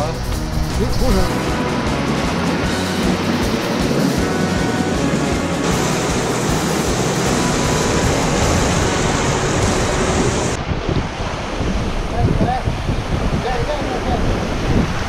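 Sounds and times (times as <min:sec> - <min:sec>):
surf breaking on rocks: 0:00.0 - 0:15.0
wind on microphone: 0:00.0 - 0:15.0.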